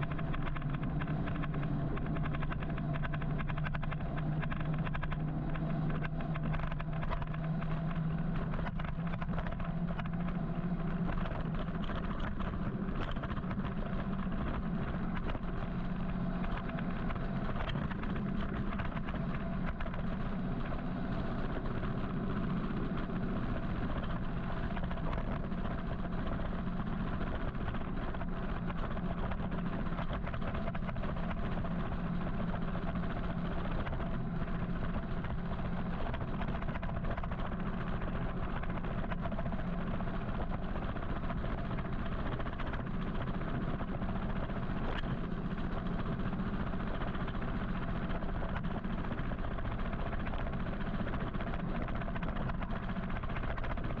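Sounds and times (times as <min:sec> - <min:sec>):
low electric motor hum: 0:00.0 - 0:54.0.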